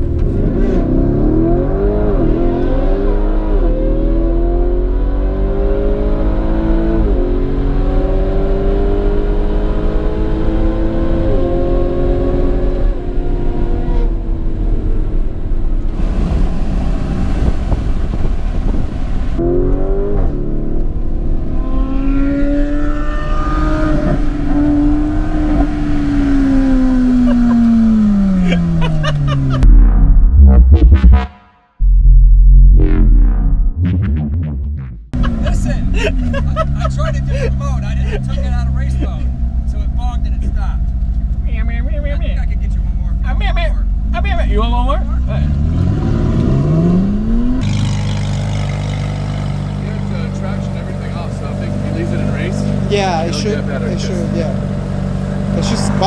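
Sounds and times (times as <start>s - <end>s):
road and wind noise: 0.0s - 30.2s, 35.1s - 56.0s
car engine at full throttle: 0.0s - 56.0s.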